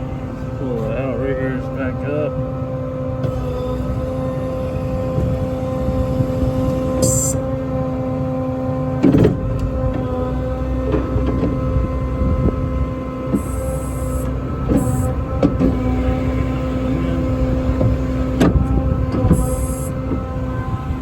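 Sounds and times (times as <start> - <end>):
hydraulic pump humming: 0.0 - 21.0.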